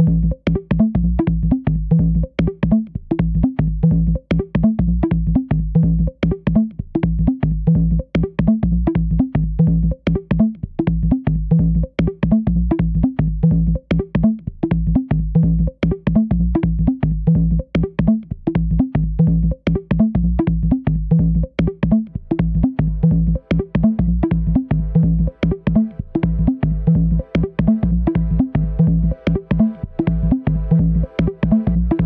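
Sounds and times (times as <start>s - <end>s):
drum machine beat: 0.0s - 32.0s
pulsing synth bass: 0.0s - 32.0s.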